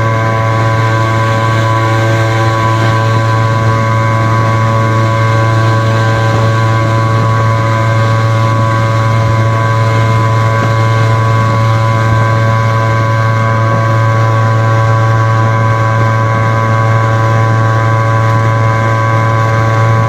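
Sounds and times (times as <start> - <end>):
two-stroke engine at high revs: 0.0 - 20.0.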